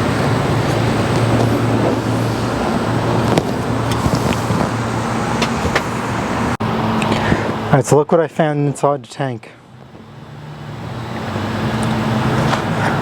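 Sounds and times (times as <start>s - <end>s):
low mechanical drone: 0.0s - 7.9s, 9.6s - 13.0s.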